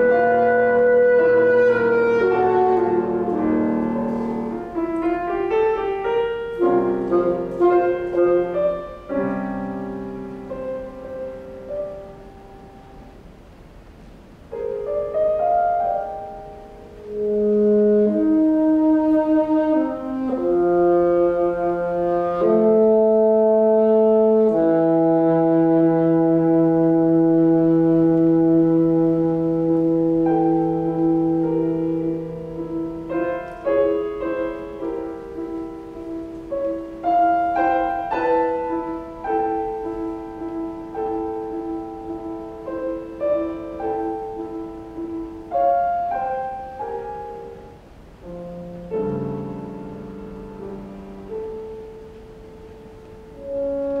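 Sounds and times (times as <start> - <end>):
saxophone: 0.0 - 12.2, 16.8 - 54.0
piano chords: 0.0 - 54.0.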